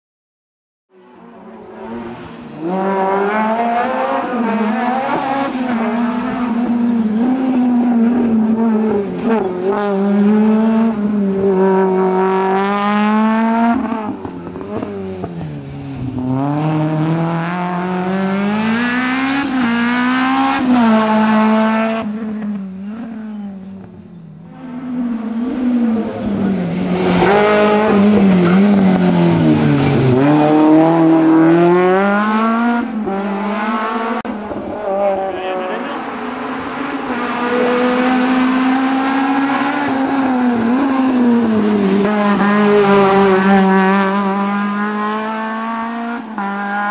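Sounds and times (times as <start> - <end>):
rally car engine revving: 1.0 - 46.9.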